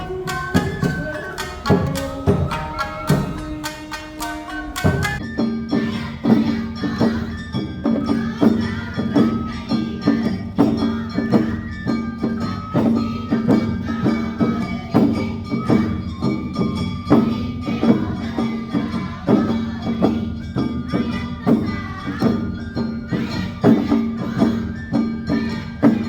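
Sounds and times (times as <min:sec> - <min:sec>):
drums beating: 0:00.0 - 0:26.0
held melodic tones: 0:00.0 - 0:26.0.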